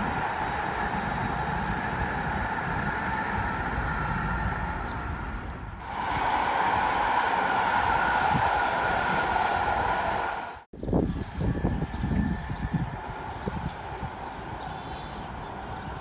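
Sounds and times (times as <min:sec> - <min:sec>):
constant whine: 0:00.0 - 0:16.0
light rail train rumbling: 0:00.0 - 0:16.0
wind-like buffeting: 0:00.0 - 0:16.0.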